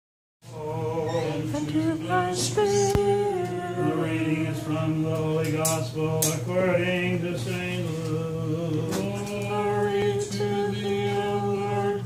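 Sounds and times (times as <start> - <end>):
choir chanting slow held notes: 0.4 - 2.9, 3.5 - 12.0.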